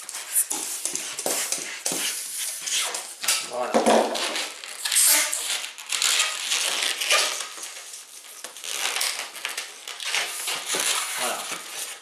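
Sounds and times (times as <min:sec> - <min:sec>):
balloon squeaking and rubbing: 0:00.0 - 0:12.0.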